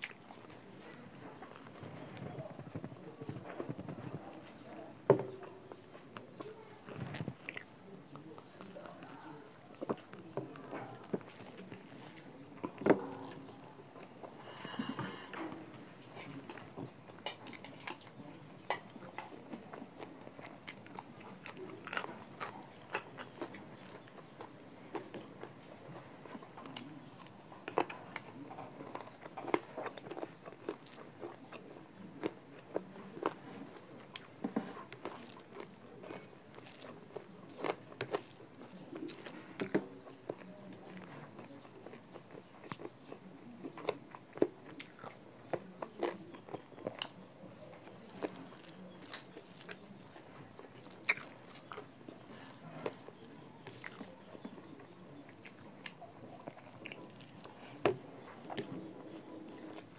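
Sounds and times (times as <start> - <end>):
person chewing food: 0.0 - 4.9, 5.8 - 15.4, 16.2 - 59.9.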